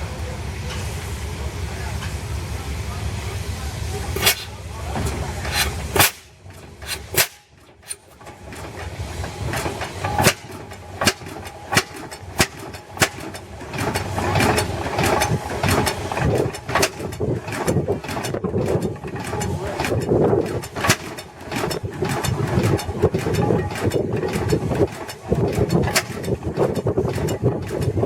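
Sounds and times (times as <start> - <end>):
tractor engine running: 0.2 - 28.0
sharp exhaust pops: 4.2 - 28.0.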